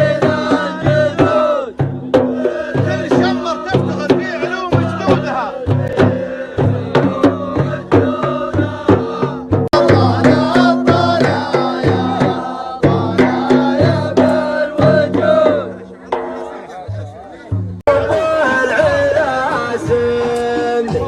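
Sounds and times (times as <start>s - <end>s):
hand drum beat: 0.0s - 21.0s.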